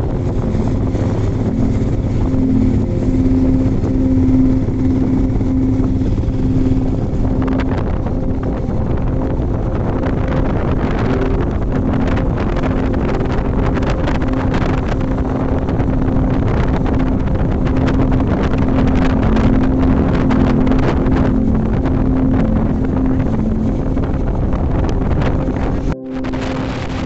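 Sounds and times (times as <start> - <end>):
vehicle engine running: 0.0 - 27.0
wind on microphone: 0.0 - 27.0.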